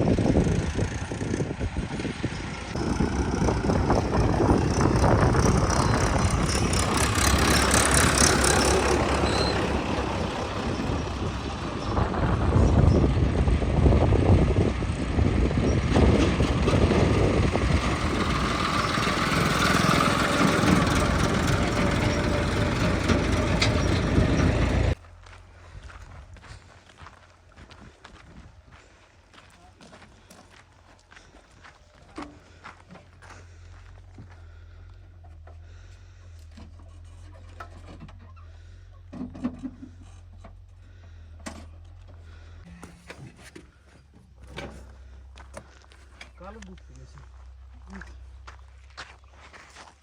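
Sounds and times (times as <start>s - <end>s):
diesel engine working: 0.0s - 26.5s, 31.2s - 49.4s.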